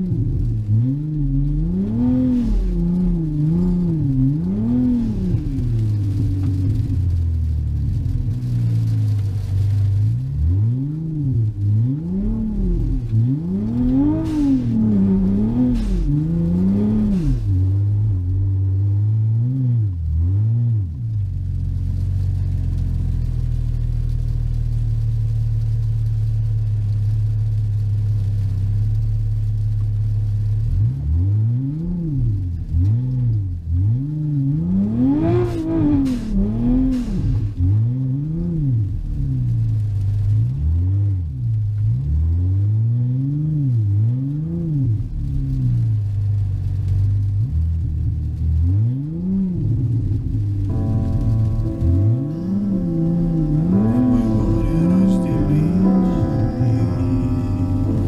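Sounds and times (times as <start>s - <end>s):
turbocharged car engine revving: 0.0s - 25.8s, 30.5s - 46.4s, 47.9s - 58.0s.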